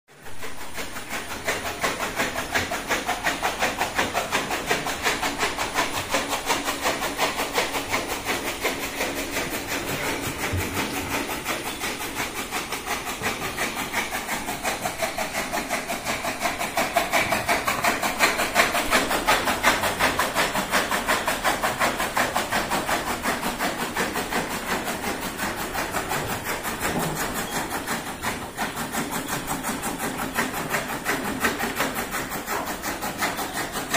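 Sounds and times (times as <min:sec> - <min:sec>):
machine running with rapid pulse: 0:00.1 - 0:33.9.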